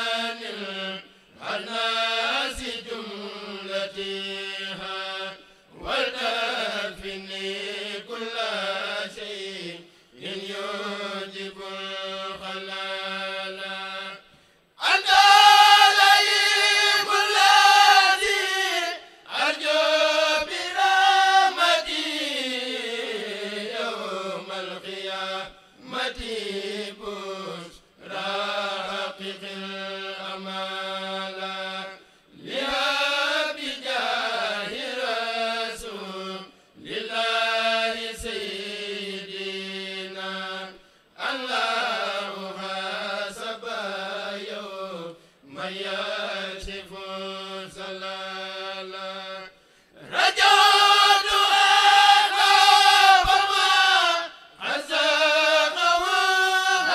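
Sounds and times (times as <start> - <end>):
men chanting unaccompanied: 0.0 - 14.2, 14.8 - 56.9.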